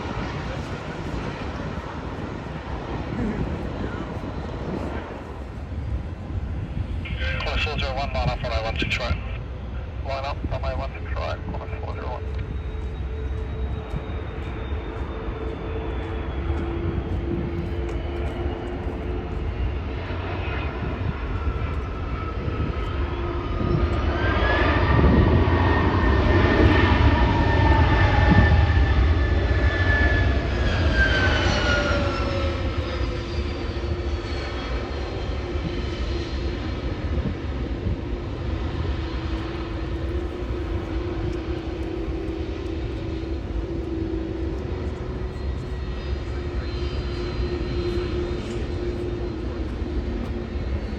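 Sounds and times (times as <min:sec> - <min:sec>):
jet airliner engines passing: 0:00.0 - 0:50.9.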